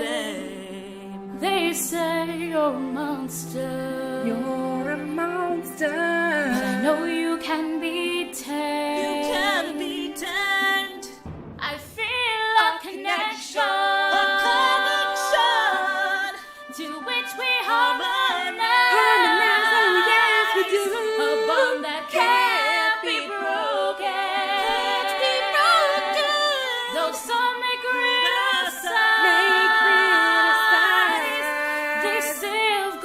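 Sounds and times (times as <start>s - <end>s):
a capella group singing: 0.0s - 33.0s.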